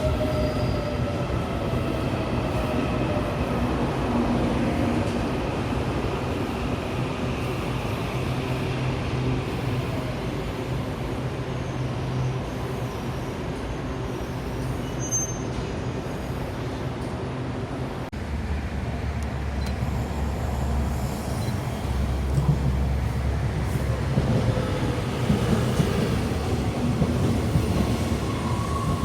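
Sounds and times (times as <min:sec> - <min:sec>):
electric train rumbling: 0:00.0 - 0:29.0
road traffic noise: 0:03.3 - 0:28.2.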